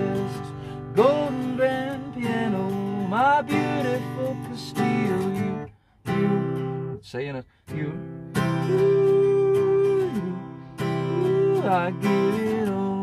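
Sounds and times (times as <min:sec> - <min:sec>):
person singing: 0:00.0 - 0:06.7, 0:07.7 - 0:13.0
strummed acoustic guitar: 0:00.0 - 0:13.0.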